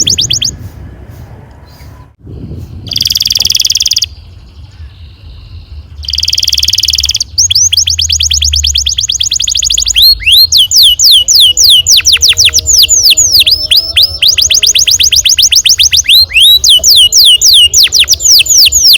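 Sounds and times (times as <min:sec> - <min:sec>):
canary singing: 0:00.0 - 0:00.8, 0:02.9 - 0:18.9.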